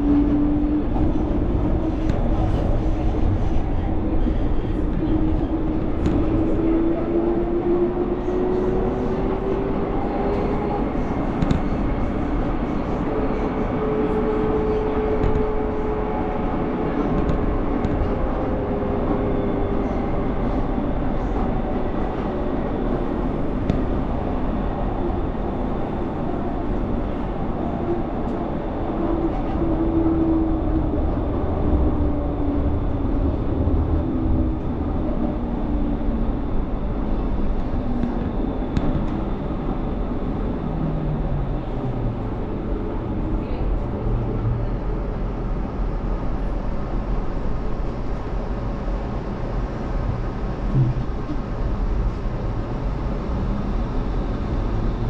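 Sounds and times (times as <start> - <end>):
tram motor humming: 0.0 - 55.0
tram rolling rumble: 0.0 - 55.0.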